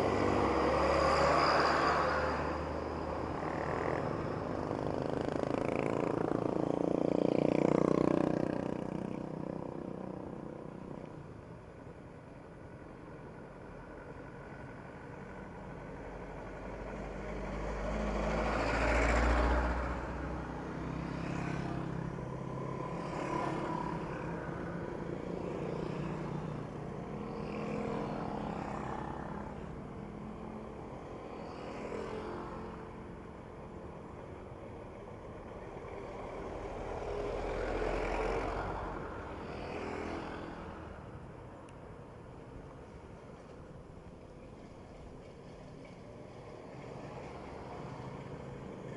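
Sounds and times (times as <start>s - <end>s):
vehicles passing close: 0.0s - 48.9s.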